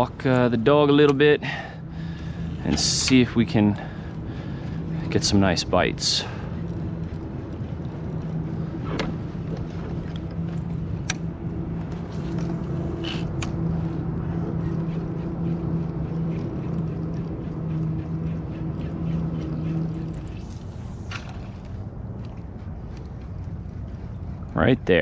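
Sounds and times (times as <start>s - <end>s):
motor humming: 0.0s - 24.4s
sharp clicks and ticks: 2.2s - 25.0s.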